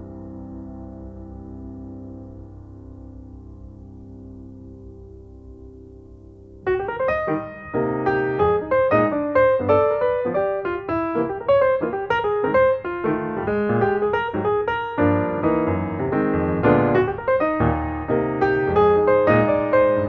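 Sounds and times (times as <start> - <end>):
piano playing gentle piece: 0.0 - 20.0.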